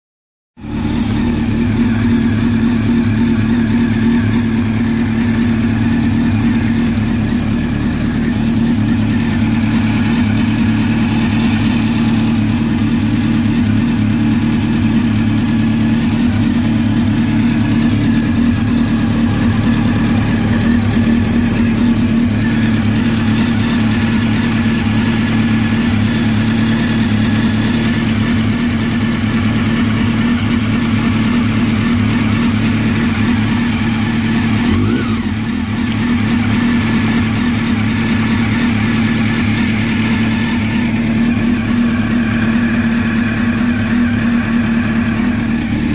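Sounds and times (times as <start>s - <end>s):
engine ticking: 0.6s - 45.9s
motorcycle engine idling: 0.6s - 45.9s.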